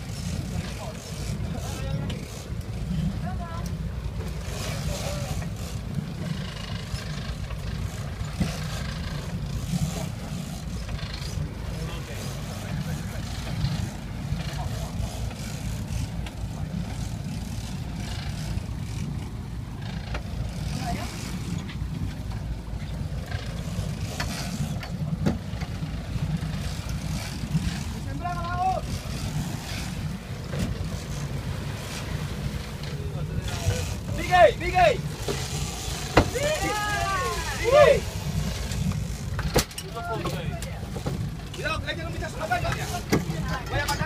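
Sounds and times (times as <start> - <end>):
boat engine running: 0.0 - 44.0
water splashing at hull: 0.0 - 44.0.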